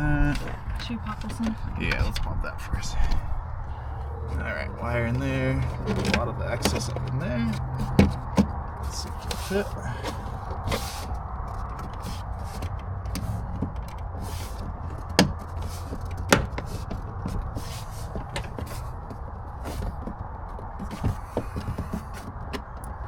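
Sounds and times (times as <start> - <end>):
steady low hum: 0.0 - 20.5
rustling and handling noises: 0.0 - 23.0.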